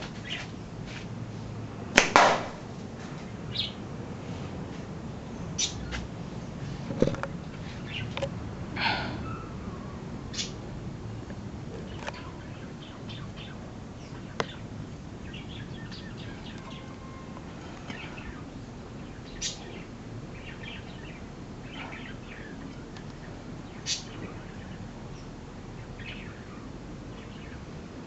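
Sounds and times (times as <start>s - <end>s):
birds chirping: 0.0s - 0.8s, 3.2s - 3.9s, 5.1s - 27.8s.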